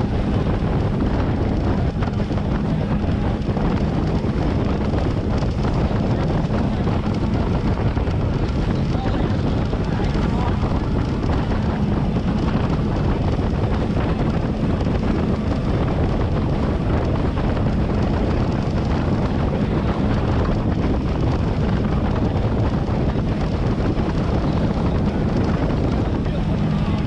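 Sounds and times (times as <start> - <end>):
boat engine running: 0.0 - 27.0
wind buffeting microphone: 0.0 - 27.0.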